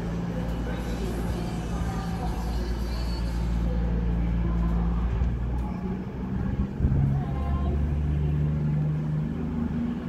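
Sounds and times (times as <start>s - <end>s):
diesel train engine droning: 0.0s - 10.0s.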